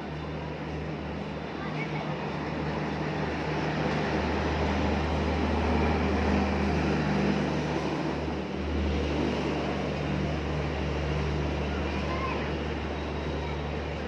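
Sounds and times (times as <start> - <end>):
train rumbling drone: 0.0 - 14.0.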